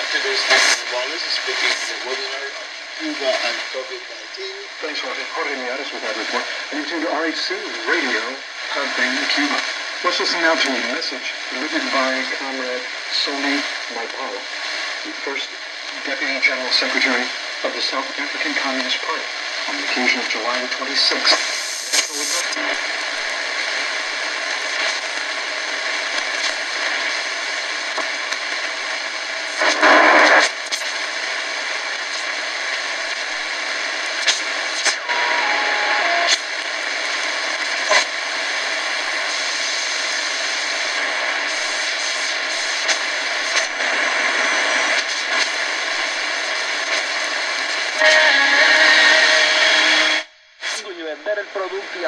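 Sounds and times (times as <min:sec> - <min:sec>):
crackles and pops: 0:00.0 - 0:48.2
shortwave radio static: 0:00.0 - 0:52.0.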